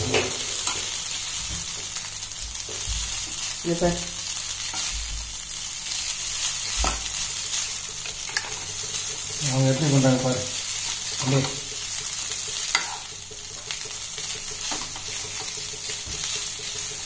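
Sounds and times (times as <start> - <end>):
noodles sizzling in frying pan: 0.0 - 17.0
utensils tossing food in pan: 2.6 - 17.0.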